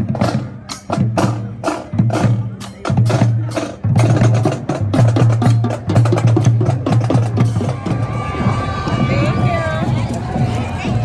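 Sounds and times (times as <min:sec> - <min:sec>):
music with drums and bass: 0:00.0 - 0:11.0.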